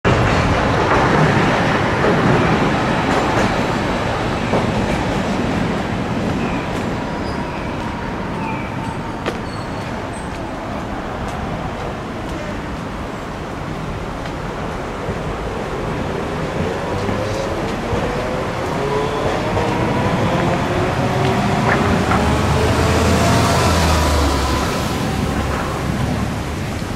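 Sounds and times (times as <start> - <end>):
city traffic noise: 0.0 - 26.9
streetcar rail rumble: 0.0 - 26.9.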